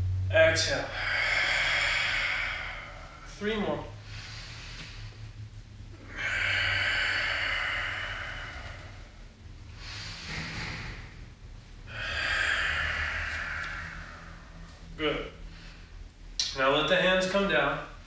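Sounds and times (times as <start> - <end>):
man breathing forcefully: 0.4 - 16.4.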